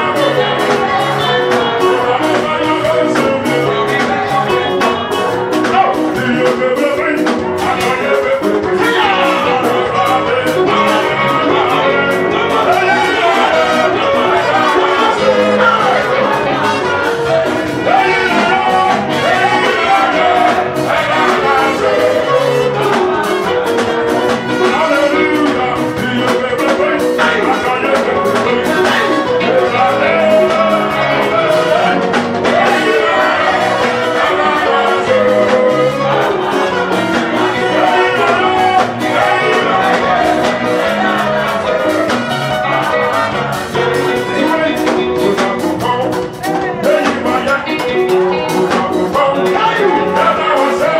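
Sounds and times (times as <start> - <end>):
band with keyboard playing: 0.0 - 50.9
people singing: 0.0 - 50.9.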